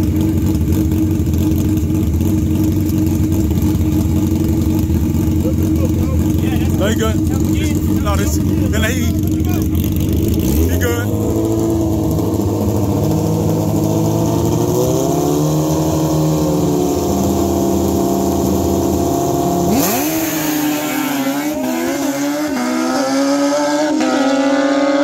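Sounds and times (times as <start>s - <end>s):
sport bike engines revving: 0.0s - 25.0s.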